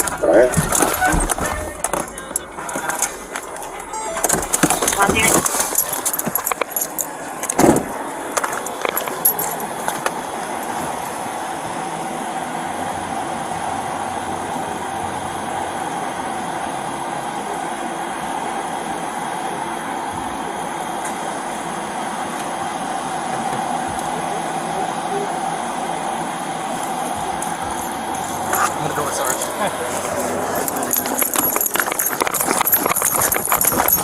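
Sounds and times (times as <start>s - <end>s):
vehicle running hum: 0.0s - 34.0s.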